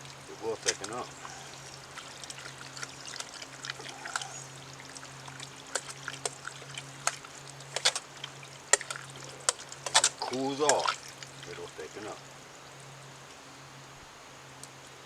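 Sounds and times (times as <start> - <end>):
campfire pops and crackles: 0.0 - 12.2
steady low hum: 0.0 - 15.0.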